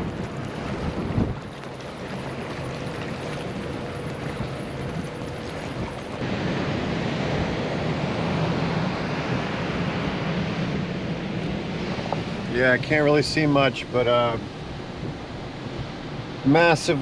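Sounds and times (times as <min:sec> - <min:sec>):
heavy storm surf: 0:00.0 - 0:17.0
storm wind on microphone: 0:00.0 - 0:17.0.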